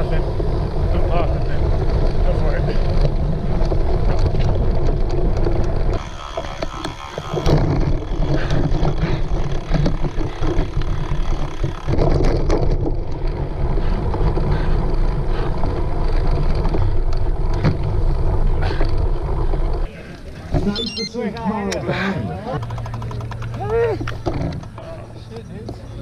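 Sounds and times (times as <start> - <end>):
wind over microphone: 0.0 - 20.8
bike rattles and clicks: 0.0 - 26.0.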